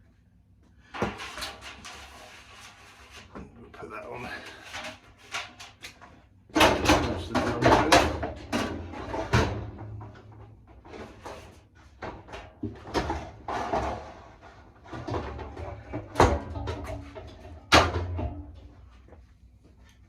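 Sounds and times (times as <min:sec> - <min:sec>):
dryer parts knocking and clattering: 0:00.8 - 0:19.9.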